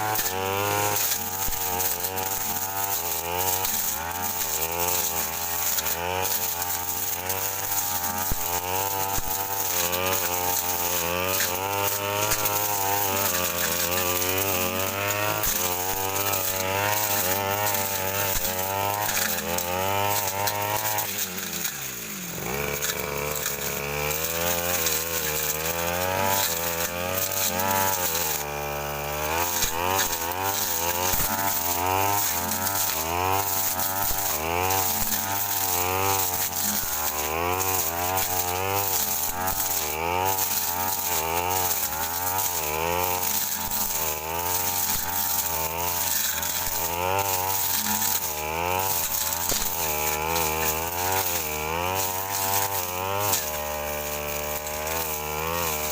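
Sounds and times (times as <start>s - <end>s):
brush cutter engine under load: 0.0s - 55.9s.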